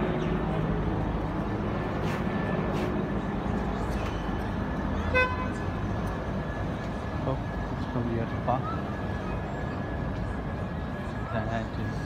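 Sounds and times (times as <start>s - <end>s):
helicopter drone overhead: 0.0s - 12.0s
street traffic: 0.0s - 12.0s.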